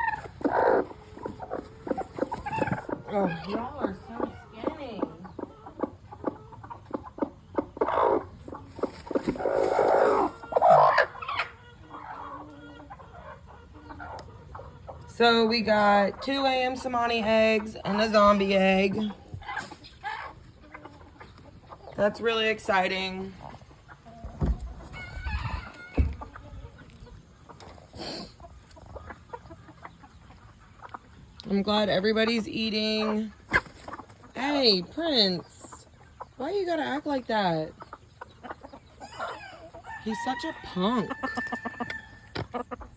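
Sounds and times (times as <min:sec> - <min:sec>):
chickens clucking and squawking: 0:00.0 - 0:42.9.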